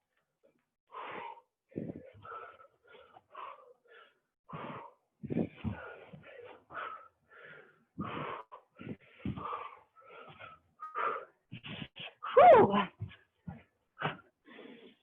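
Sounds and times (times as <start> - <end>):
person breathing hard: 0.9 - 12.3, 13.5 - 15.0.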